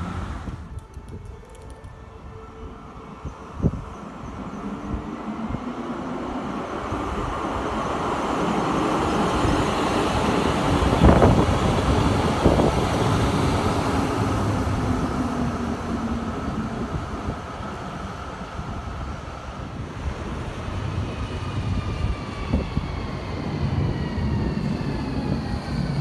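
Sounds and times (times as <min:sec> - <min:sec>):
tram passing on rails: 0:00.0 - 0:26.0.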